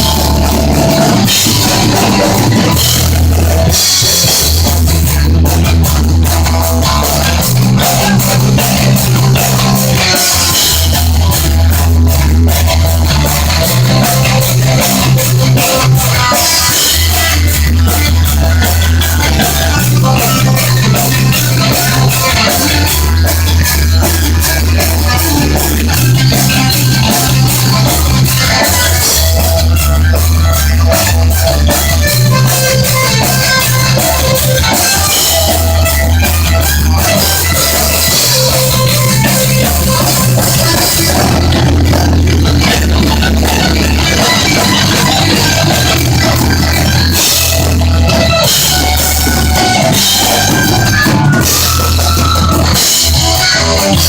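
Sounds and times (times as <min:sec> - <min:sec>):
bass guitar riff: 0:00.0 - 0:54.0
drum kit with cymbal strokes: 0:00.0 - 0:54.0
electric guitar: 0:00.0 - 0:54.0.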